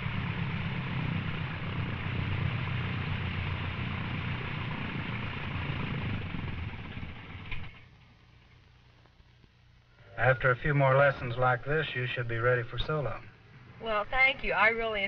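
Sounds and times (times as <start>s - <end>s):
light airplane engine and propeller: 0.0s - 8.7s, 10.0s - 13.4s.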